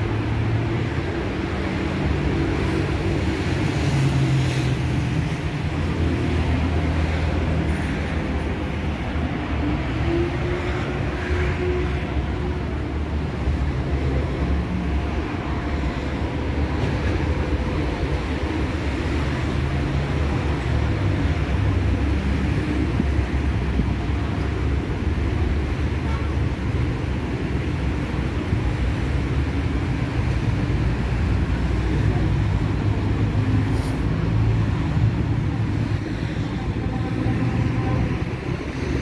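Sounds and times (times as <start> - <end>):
street traffic rumble: 0.0 - 39.0.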